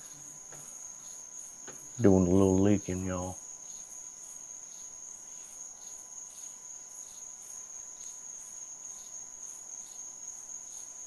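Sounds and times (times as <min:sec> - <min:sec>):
crickets trilling: 0:00.0 - 0:11.0
insect pulsing chirp: 0:00.0 - 0:11.0.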